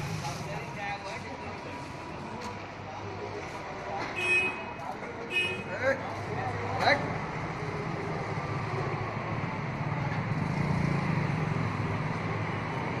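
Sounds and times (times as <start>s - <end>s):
vehicle engines humming: 0.0s - 13.0s.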